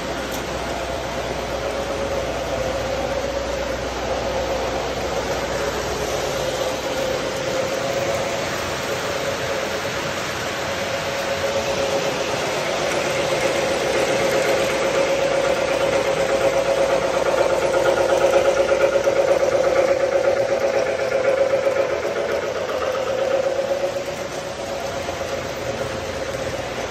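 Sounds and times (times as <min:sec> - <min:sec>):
model trains humming: 0:00.0 - 0:26.9.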